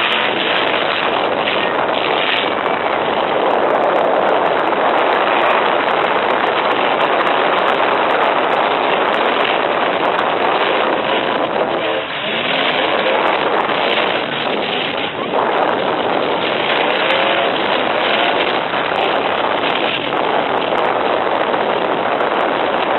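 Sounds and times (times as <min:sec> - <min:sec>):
truck engines running and revving: 0:00.0 - 0:22.9.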